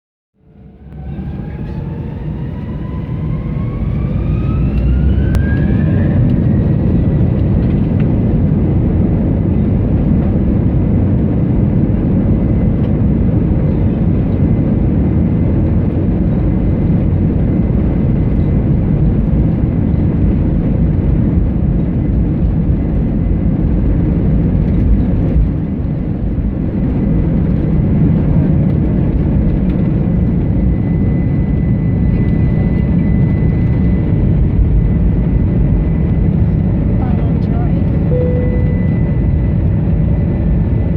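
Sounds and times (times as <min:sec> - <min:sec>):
jet engines whining and rumbling: 0:00.4 - 0:40.9.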